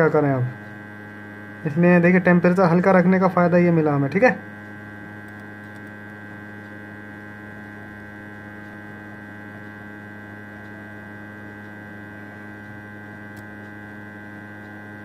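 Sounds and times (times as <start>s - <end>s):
hot-air station electrical hum: 0.0s - 15.0s.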